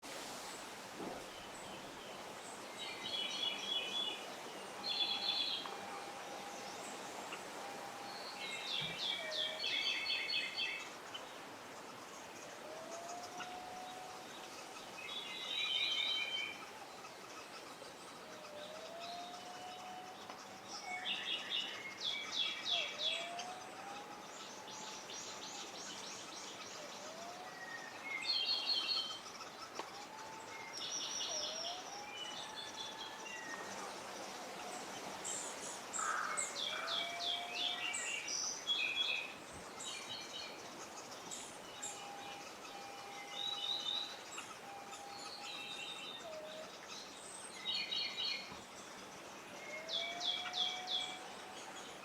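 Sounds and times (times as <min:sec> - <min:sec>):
background hiss: 0:00.0 - 0:52.0
birds chirping: 0:01.0 - 0:52.0.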